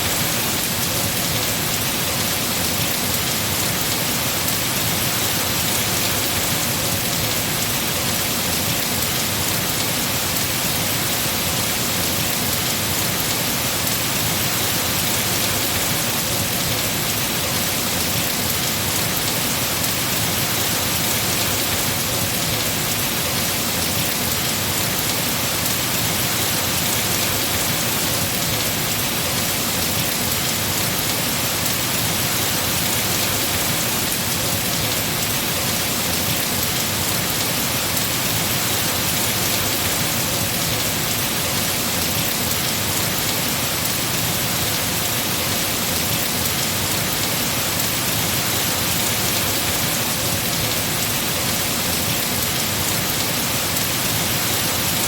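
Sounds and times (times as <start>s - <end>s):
heavy rain on trees: 0.0s - 55.0s.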